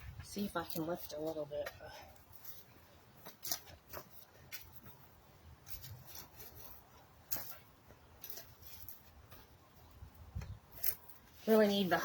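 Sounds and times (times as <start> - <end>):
soil scraping and crunching: 0.0 - 12.0.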